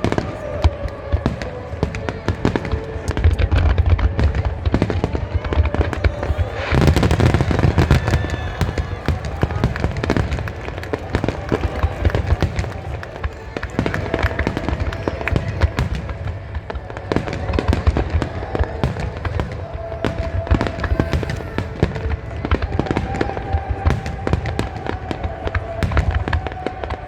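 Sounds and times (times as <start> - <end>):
fireworks bursts and crackles: 0.0 - 27.0.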